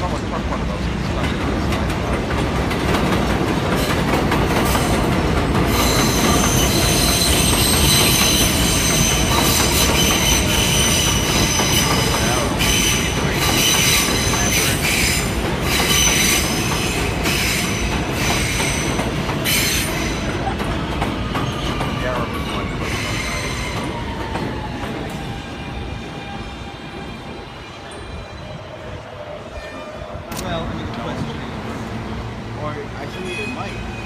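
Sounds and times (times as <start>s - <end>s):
subway train running on tracks: 0.0s - 34.0s
steel wheels squealing on rails: 3.7s - 31.8s, 33.0s - 34.0s.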